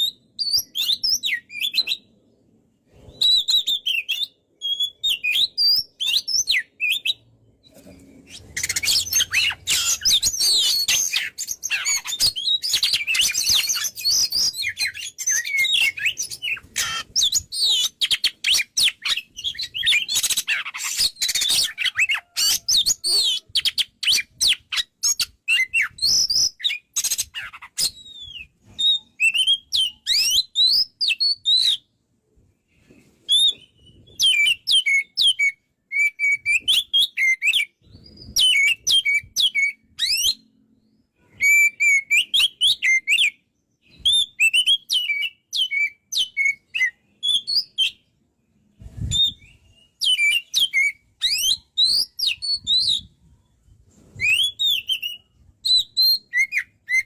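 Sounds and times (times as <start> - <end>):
bird singing chirps and whistles: 0.0 - 2.1, 3.0 - 7.2, 8.2 - 31.9, 33.3 - 48.1, 48.9 - 53.4, 54.1 - 57.0.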